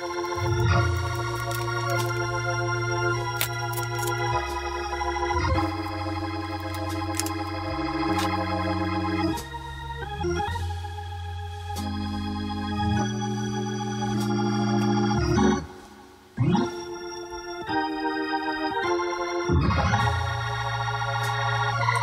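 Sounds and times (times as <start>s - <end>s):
sustained chord background music: 0.0s - 22.0s.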